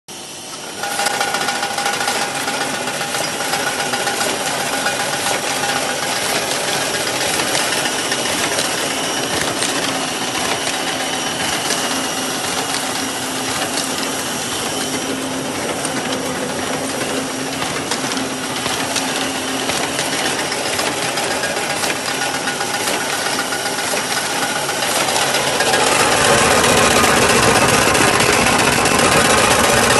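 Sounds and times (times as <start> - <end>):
sewing machine clattering: 0.8 - 29.9.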